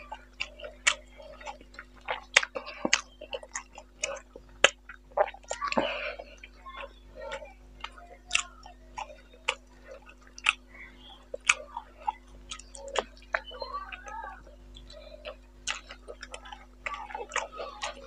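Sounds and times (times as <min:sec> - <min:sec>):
wet chewing clicks and smacks: 0:00.0 - 0:18.0.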